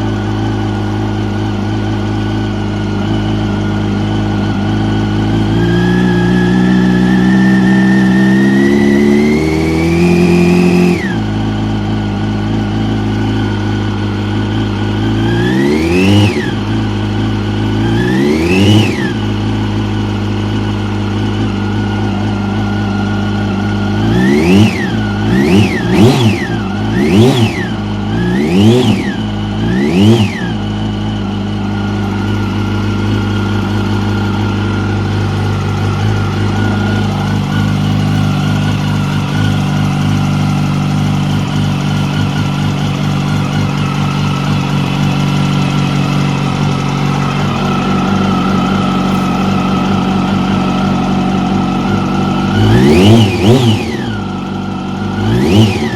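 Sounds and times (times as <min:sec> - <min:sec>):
motorcycle engine idling and revving: 0:00.0 - 0:55.9
engine ticking: 0:10.5 - 0:55.9.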